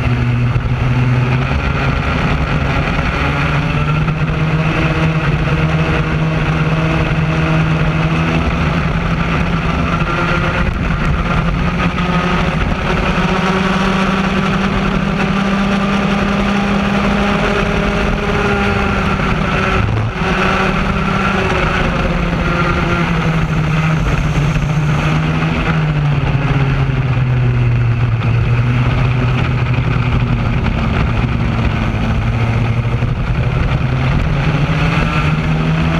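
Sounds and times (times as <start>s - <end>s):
racing kart engine at speed: 0.0s - 35.9s.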